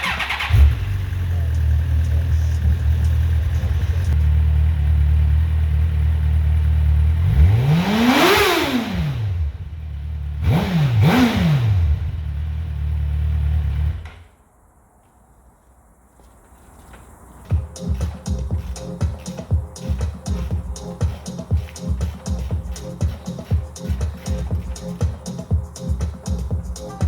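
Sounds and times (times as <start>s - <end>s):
motorcycle engine idling and revving: 0.0s - 14.2s, 17.4s - 27.0s.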